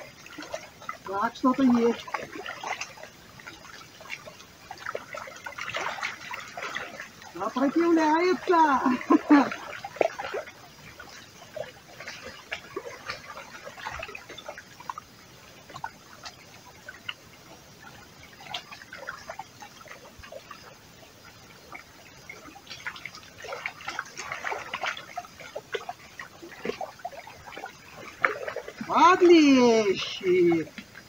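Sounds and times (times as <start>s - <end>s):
water lapping: 0.0s - 31.0s.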